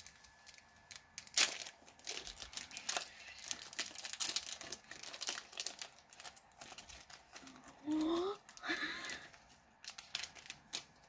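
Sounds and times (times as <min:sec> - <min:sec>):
foil pack ripping: 0:00.0 - 0:11.0
foil wrapper crinkling: 0:00.0 - 0:11.0.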